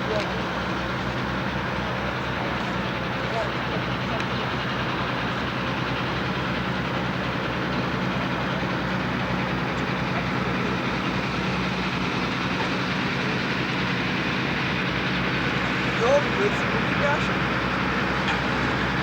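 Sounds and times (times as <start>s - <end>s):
engine running evenly: 0.0s - 19.0s
street traffic: 0.0s - 19.0s.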